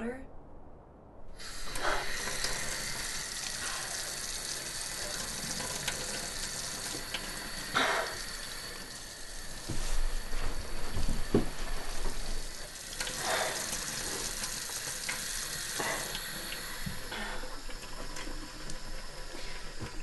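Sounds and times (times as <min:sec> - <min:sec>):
tap water running into sink: 0:01.4 - 0:20.0.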